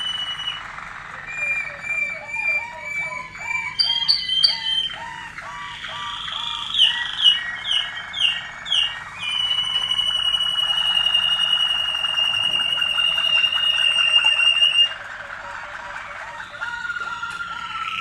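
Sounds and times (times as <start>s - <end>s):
canaries singing: 0.0s - 18.0s.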